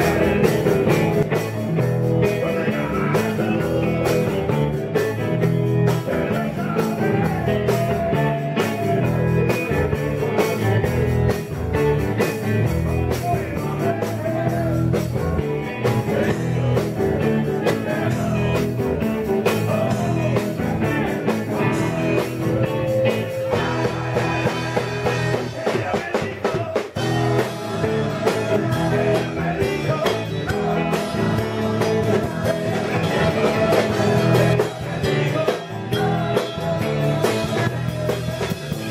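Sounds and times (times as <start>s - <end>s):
electric guitar: 0.0s - 38.9s
person singing: 0.0s - 38.9s
rock band playing blues-rock: 0.0s - 38.9s.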